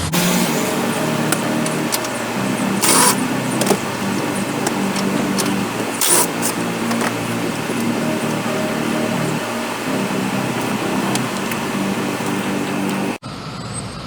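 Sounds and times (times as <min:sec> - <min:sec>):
short hissing bursts: 0:00.0 - 0:12.8
power tool motor hum: 0:00.0 - 0:13.2.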